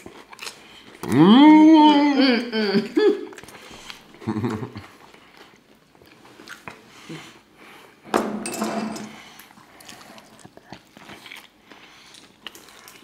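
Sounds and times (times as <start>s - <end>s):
people chewing: 0.0s - 8.0s, 9.2s - 13.0s.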